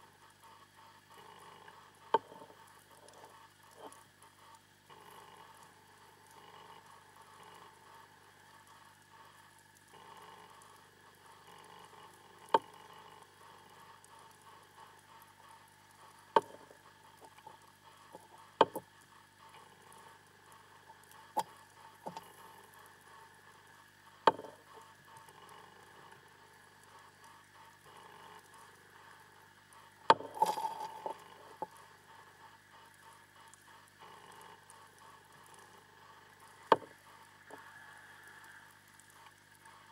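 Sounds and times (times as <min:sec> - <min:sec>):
steady electronic hum: 0:00.0 - 0:39.9.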